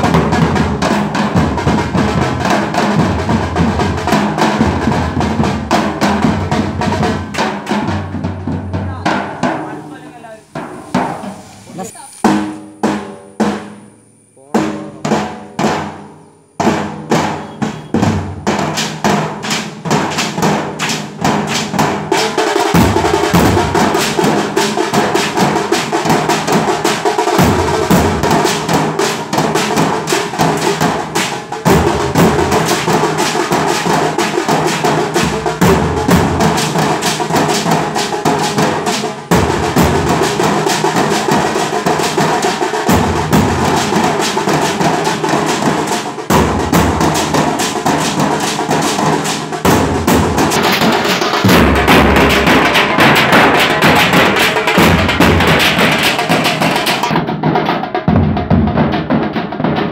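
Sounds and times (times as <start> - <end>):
drum ensemble drumming: 0.0 - 59.9.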